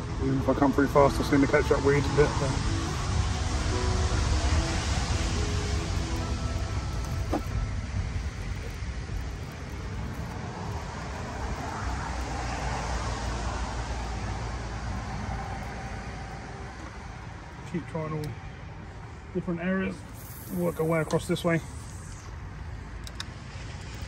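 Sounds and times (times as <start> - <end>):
outdoor rumble and hiss: 0.0 - 24.0.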